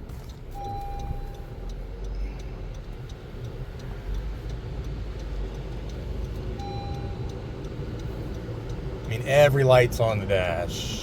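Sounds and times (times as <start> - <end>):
indicator relay ticking: 0.0 - 10.6
low steady rumble: 0.0 - 11.0.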